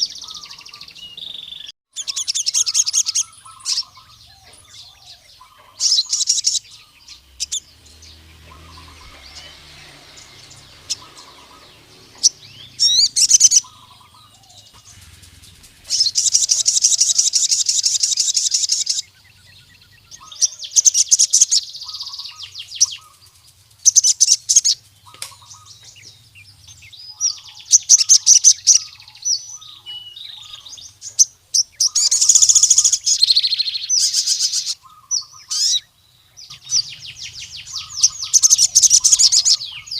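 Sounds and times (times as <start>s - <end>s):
sunbird chirping trills: 0.0s - 39.9s.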